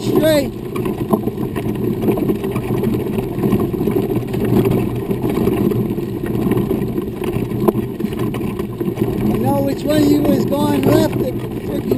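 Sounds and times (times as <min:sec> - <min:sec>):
wheelchair wheels rolling on dirt: 0:00.0 - 0:11.9.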